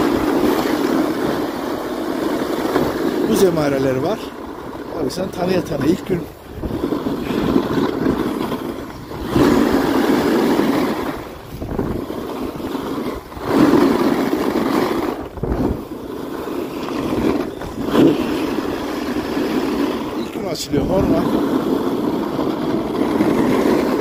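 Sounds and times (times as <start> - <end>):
skis carving on snow: 0.0 - 24.0
wind buffeting microphone: 0.0 - 24.0.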